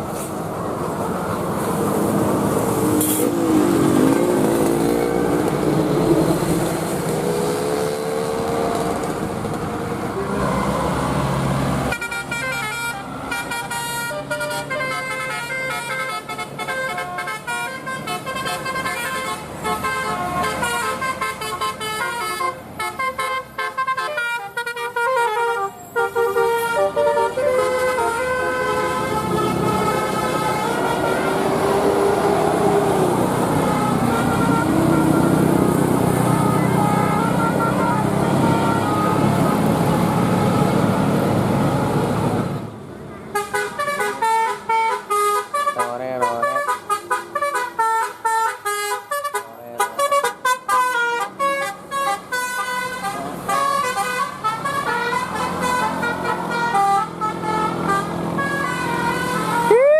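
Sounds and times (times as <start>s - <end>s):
multi-tone bus horn: 10.0s - 42.6s, 43.3s - 59.8s.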